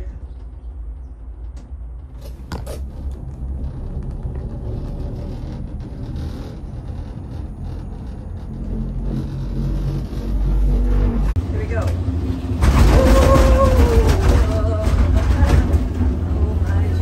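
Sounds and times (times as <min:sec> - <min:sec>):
moving ride rumbling: 0:00.0 - 0:17.0.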